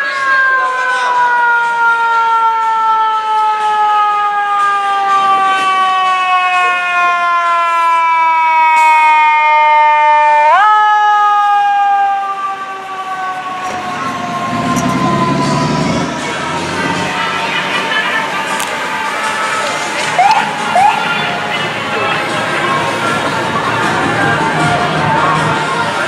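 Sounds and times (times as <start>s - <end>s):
fire engine siren: 0.0s - 26.0s.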